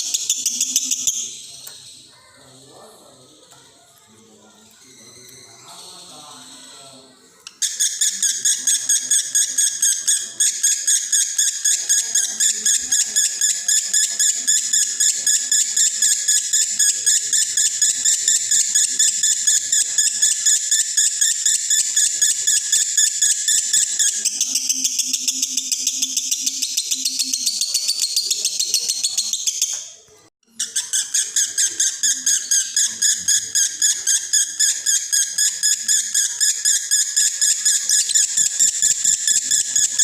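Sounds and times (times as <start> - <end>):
lovebird chattering song: 0.0 - 2.6, 7.5 - 40.0.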